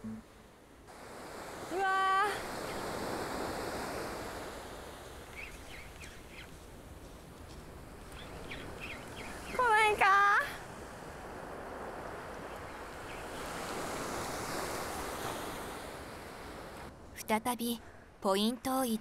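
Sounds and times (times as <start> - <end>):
small waves breaking on beach: 0.3 - 17.0.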